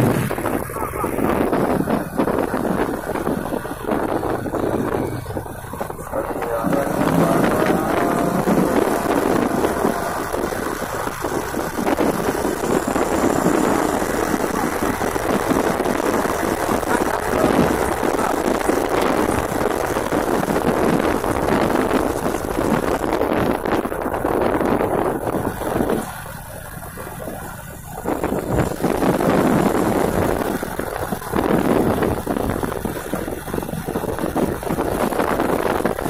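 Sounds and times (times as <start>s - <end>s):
road noise: 0.0s - 36.0s
truck engines rumbling: 0.0s - 36.0s
wind buffeting microphone: 0.0s - 36.0s.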